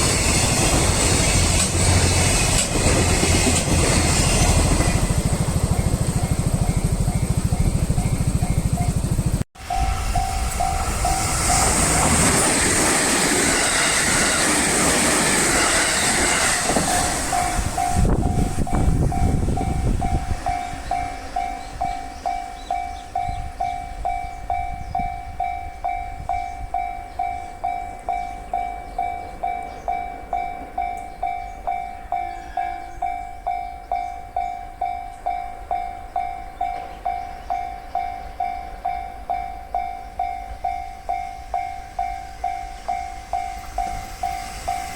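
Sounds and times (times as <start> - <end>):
train rumbling past: 0.0 - 44.9
level crossing alarm bell ringing: 3.3 - 44.9.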